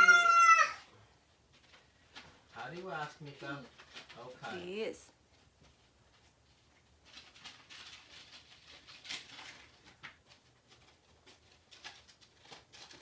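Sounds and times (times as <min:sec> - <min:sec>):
packaging rustling and crackling: 0:01.5 - 0:04.6, 0:05.6 - 0:13.0.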